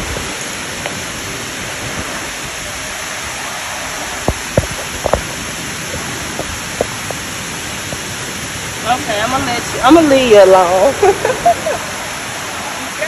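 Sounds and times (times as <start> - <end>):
falling water rushing: 0.0 - 13.0.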